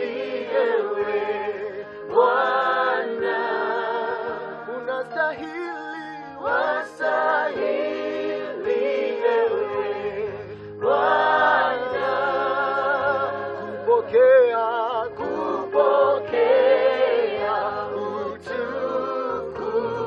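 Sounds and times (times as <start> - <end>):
man and woman singing gospel: 0.0 - 20.0.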